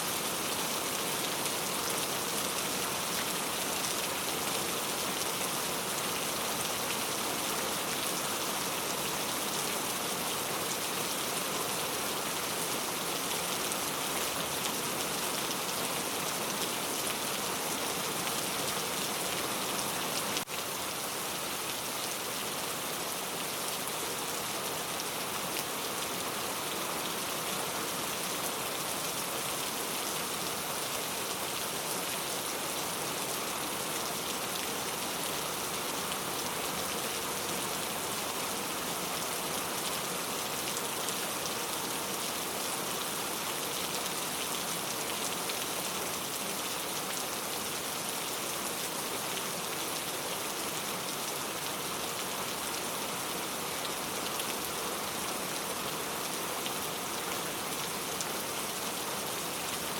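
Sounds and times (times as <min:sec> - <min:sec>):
dense rainfall: 0:00.0 - 0:59.9.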